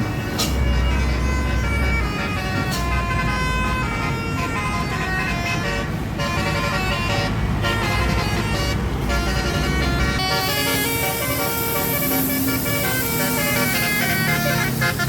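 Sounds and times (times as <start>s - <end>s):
bus engine rumble: 0.0s - 15.0s
multi-tone bus horn tune: 0.0s - 15.0s.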